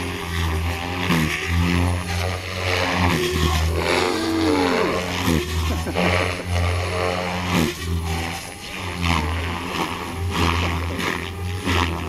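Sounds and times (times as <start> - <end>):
helicopter rotor humming and whooshing: 0.0 - 12.0.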